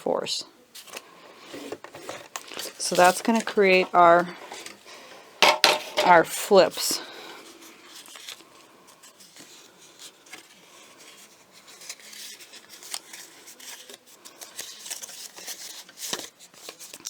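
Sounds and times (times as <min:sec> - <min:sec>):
paper rustling: 0:00.8 - 0:06.3, 0:07.0 - 0:17.0.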